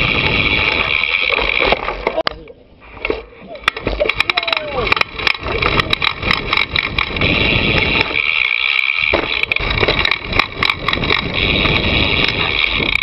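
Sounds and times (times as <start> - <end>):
bike chain and frame rattling: 0.0 - 2.2, 2.9 - 13.0
bike tyres rumbling on dirt: 0.0 - 2.2, 2.8 - 13.0.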